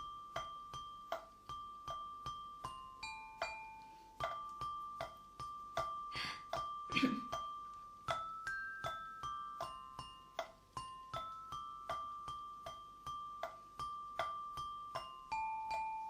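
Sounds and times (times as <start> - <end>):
glockenspiel tune: 0.0 - 16.0.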